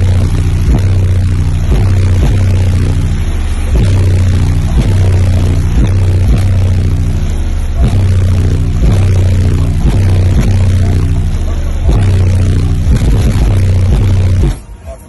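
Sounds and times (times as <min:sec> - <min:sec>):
loud bass-heavy music: 0:00.0 - 0:15.0.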